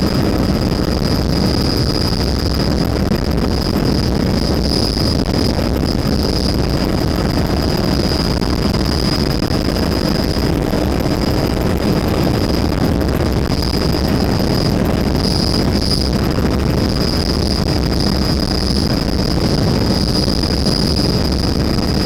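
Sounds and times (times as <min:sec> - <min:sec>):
helicopter engine and rotor: 0:00.0 - 0:22.0
high steady whine: 0:00.0 - 0:22.0.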